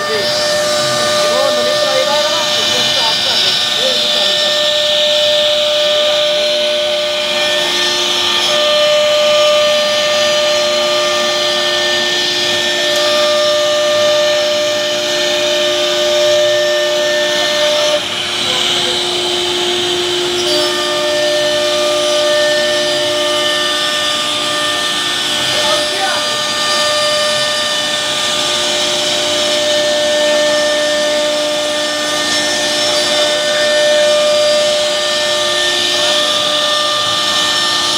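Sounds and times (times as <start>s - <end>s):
router spindle whine: 0.0s - 37.9s.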